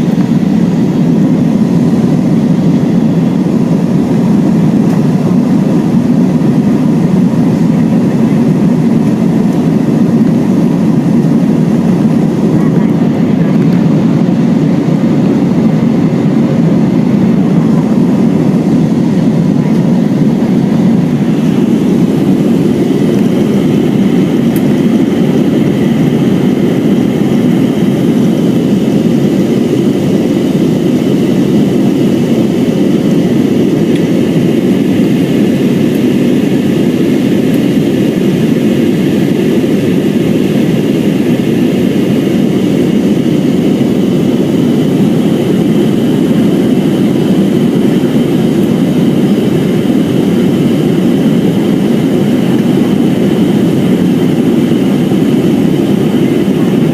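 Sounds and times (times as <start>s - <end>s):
faint high engine whine: 0.0s - 56.9s
jet engine cabin rumble: 0.0s - 56.9s.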